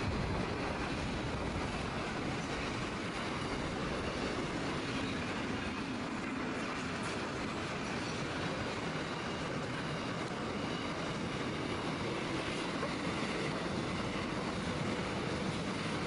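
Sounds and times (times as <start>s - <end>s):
distant train wheels on rail: 0.0s - 16.0s.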